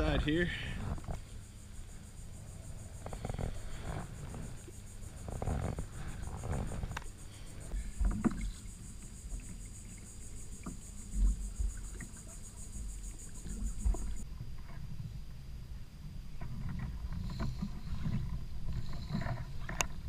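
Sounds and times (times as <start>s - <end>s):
paddle strokes in water: 0.0s - 20.0s.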